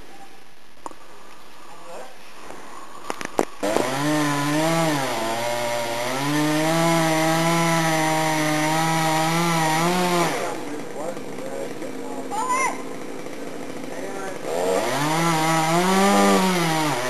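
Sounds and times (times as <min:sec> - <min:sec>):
chainsaw cutting wood: 0:03.1 - 0:17.0.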